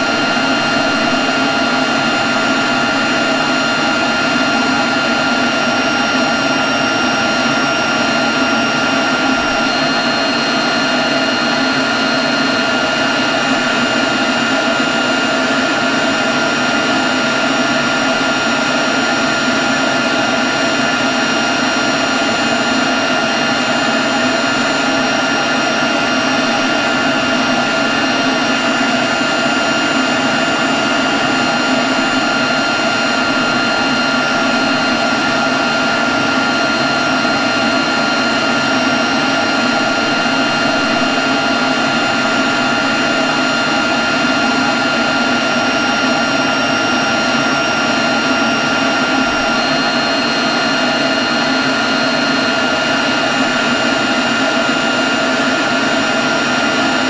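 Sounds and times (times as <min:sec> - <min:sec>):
leaf blower running: 0:00.0 - 0:57.0.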